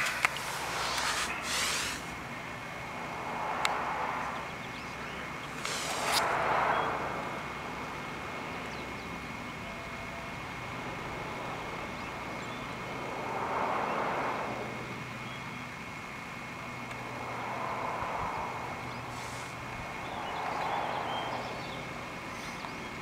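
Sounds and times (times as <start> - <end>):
steady low traffic hum: 0.0 - 23.0
vehicles passing: 0.0 - 23.0.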